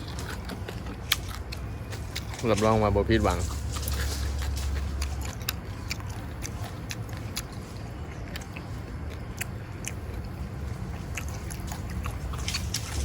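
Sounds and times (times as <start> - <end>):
low steady hum: 0.0 - 13.0
person chewing crunchy food: 0.0 - 13.0.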